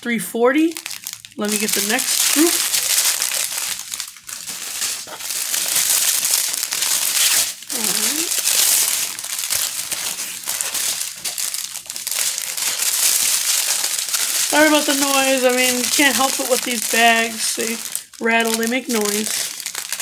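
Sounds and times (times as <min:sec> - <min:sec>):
plastic bags crinkling and rattling: 0:00.8 - 0:20.0.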